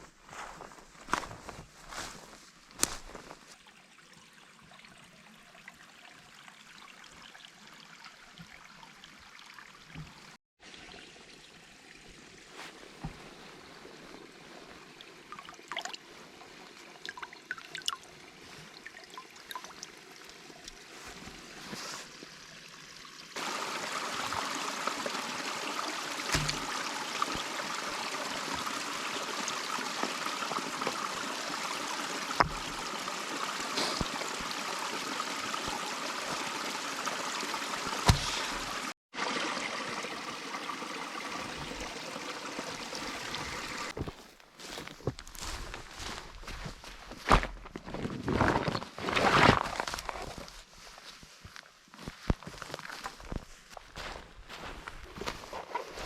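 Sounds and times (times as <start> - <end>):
running water: 0.0 - 46.7.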